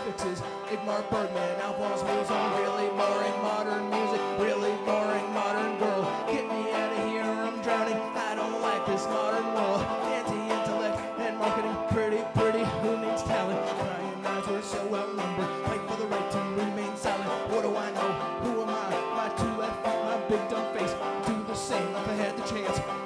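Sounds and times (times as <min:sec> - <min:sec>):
banjo playing: 0:00.0 - 0:23.0
guitar playing: 0:00.0 - 0:23.0.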